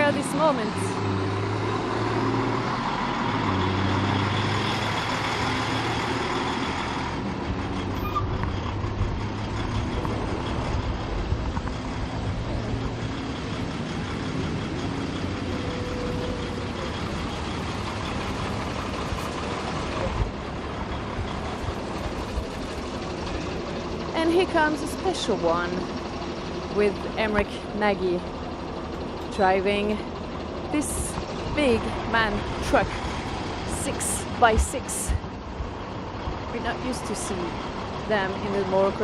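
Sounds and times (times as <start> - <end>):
diesel truck engines running: 0.0 - 39.0.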